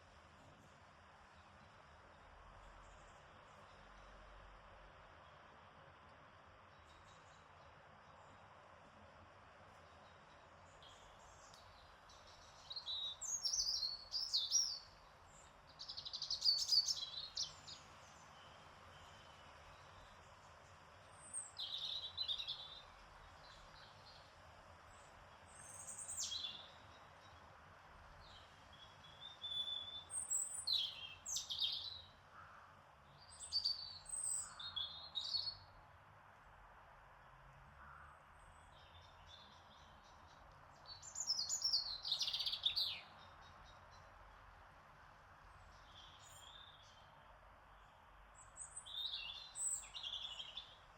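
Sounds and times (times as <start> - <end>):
faint garden ambience hiss: 0.0 - 50.9
songbirds chirping and trilling: 6.3 - 35.9, 37.7 - 50.9.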